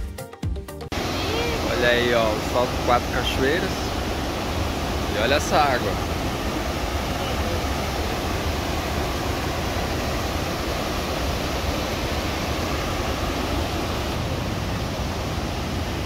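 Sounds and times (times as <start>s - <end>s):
waterfall rushing: 0.9s - 16.0s.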